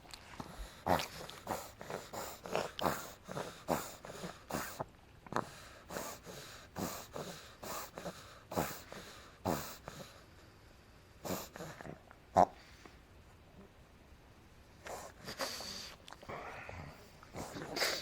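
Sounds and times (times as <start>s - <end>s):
puppy snorting: 0.4s - 10.2s, 11.2s - 12.8s, 14.8s - 18.0s.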